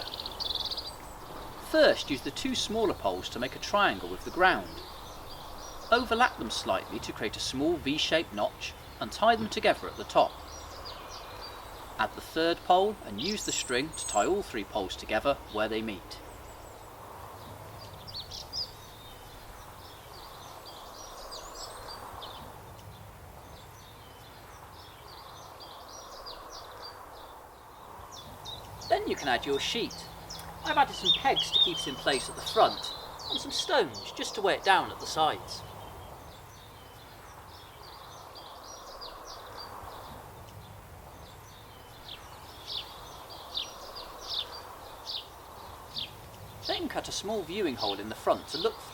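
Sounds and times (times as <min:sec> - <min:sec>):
outdoor background noise: 0:00.0 - 0:48.9
small birds chirping: 0:00.0 - 0:48.9.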